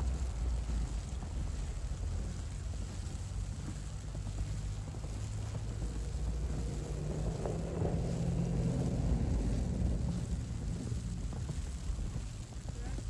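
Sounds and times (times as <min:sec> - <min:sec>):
low engine hum: 0:00.0 - 0:13.0
low wind rumble: 0:00.0 - 0:13.0.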